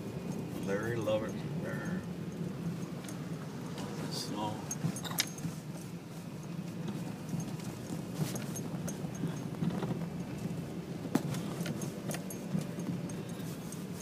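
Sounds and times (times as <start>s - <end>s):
engine and tyre hum: 0.0s - 14.0s.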